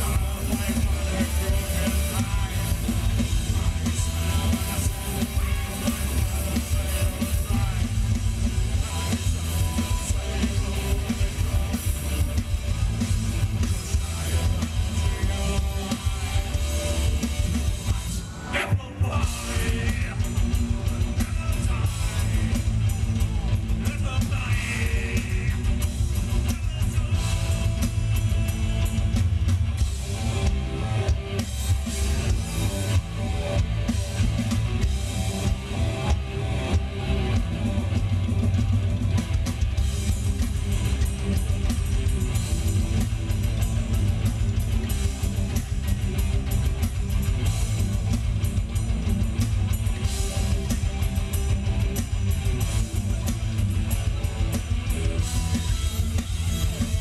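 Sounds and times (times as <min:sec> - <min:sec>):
drum kit: 0:00.0 - 0:57.0
electric guitars: 0:00.0 - 0:57.0.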